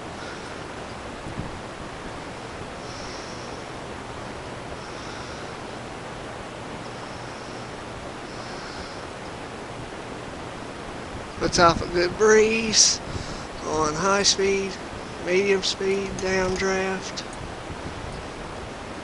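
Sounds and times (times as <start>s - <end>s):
ceiling fan air rushing: 0.0s - 19.0s
faint high whine: 0.0s - 19.0s.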